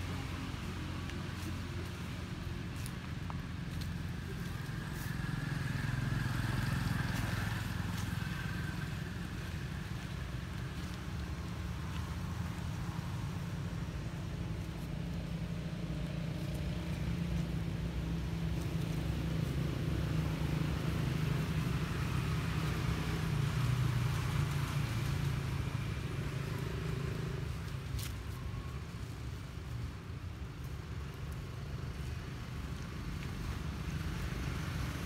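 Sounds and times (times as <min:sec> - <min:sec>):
motor vehicle rumble: 0:00.0 - 0:35.0.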